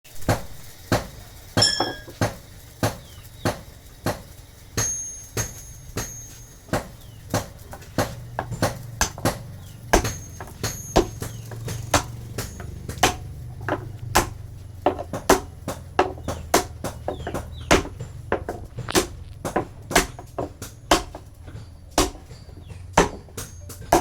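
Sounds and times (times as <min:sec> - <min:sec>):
hammer striking steel: 0:00.2 - 0:24.0.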